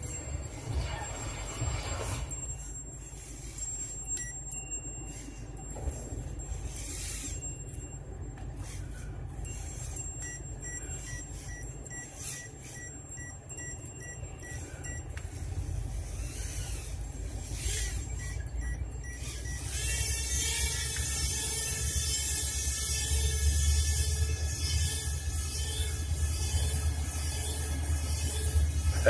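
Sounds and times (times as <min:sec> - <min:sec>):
high motor whine: 0:00.0 - 0:29.0
toy plane electric motor humming: 0:00.0 - 0:29.0.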